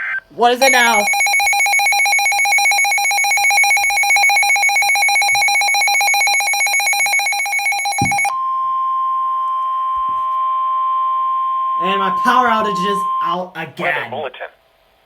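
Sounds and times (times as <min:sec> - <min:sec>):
trilling electronic alarm ring: 0:00.6 - 0:13.3
steady alarm tone: 0:00.6 - 0:13.4.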